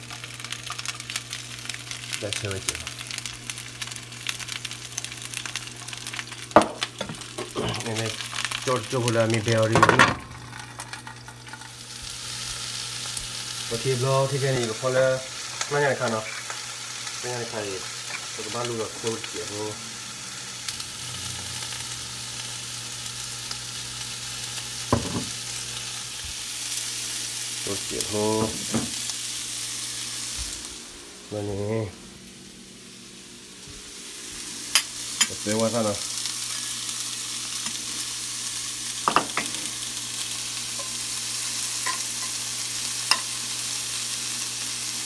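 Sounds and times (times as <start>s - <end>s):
oil sizzling in a frying pan: 0.0s - 45.0s.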